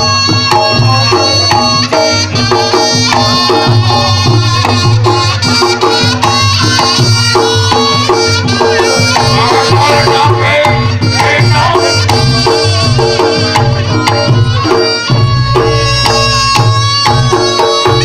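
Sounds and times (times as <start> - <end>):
gamelan music: 0.0 - 18.0
hand drums beating: 0.0 - 18.0.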